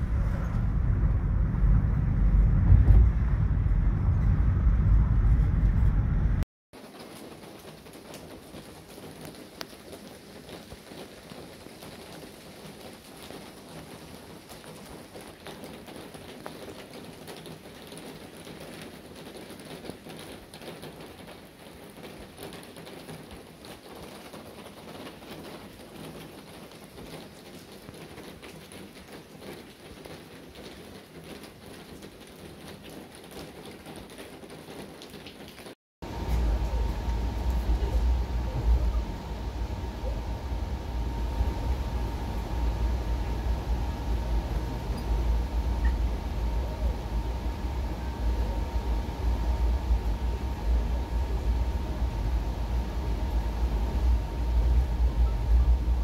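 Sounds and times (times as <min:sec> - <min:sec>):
steady rain patter: 0:06.8 - 0:56.0.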